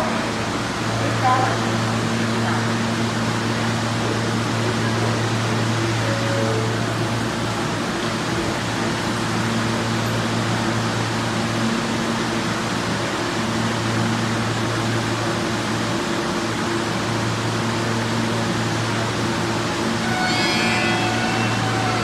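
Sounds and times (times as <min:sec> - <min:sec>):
train equipment low hum: 0:00.0 - 0:22.0.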